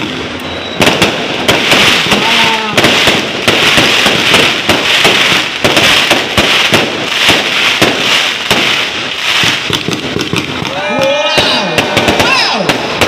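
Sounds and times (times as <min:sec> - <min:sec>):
fireworks bangs and pops: 0:00.0 - 0:13.0
fireworks crackling fizz: 0:00.0 - 0:13.0.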